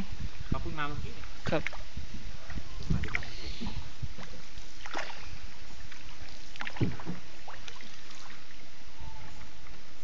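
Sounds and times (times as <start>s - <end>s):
paddle splashes: 1.2s - 10.0s.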